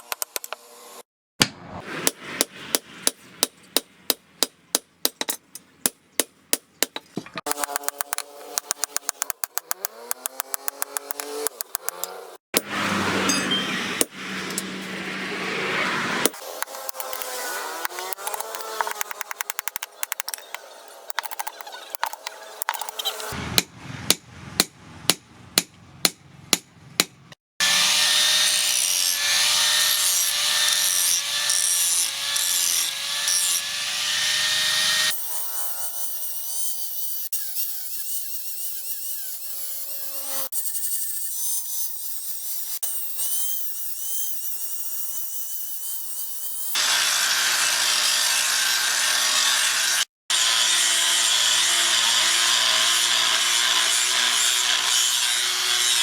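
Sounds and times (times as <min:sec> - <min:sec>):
power tool grinding steel: 0:07.4 - 0:24.1, 0:27.6 - 0:56.0.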